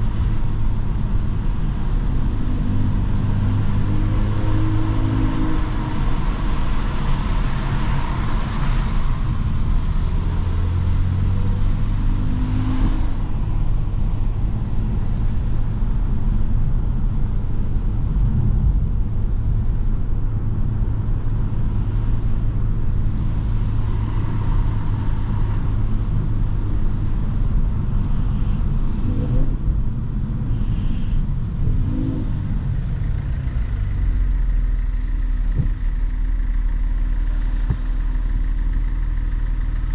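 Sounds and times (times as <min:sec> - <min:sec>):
car engine and exhaust: 0:00.0 - 0:39.9
road noise: 0:00.0 - 0:39.9.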